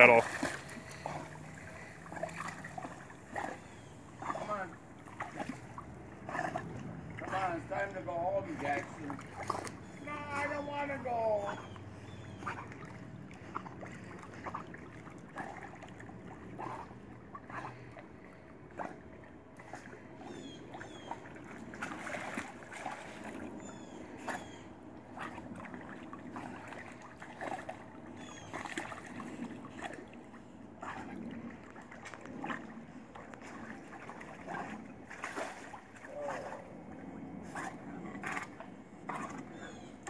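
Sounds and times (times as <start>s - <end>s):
dog splashing in water: 0.0s - 10.0s, 10.6s - 17.8s, 19.6s - 30.2s, 30.8s - 36.7s.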